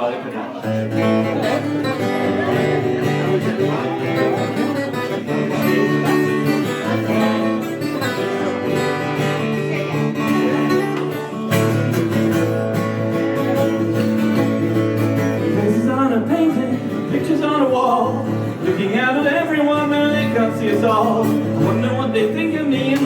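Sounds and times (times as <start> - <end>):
acoustic guitar playing: 0.5 - 23.0.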